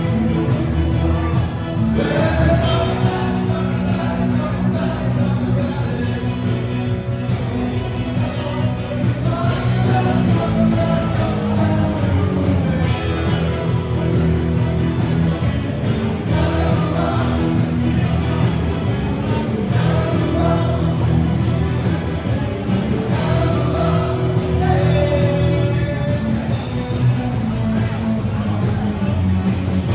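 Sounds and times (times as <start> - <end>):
person singing: 0.0 - 27.1
drums beating: 0.0 - 29.9
live band playing: 0.0 - 29.9.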